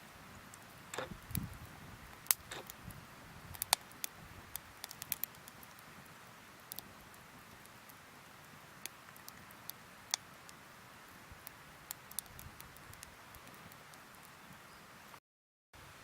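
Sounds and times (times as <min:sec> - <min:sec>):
campfire crackling and popping: 0:00.2 - 0:14.6.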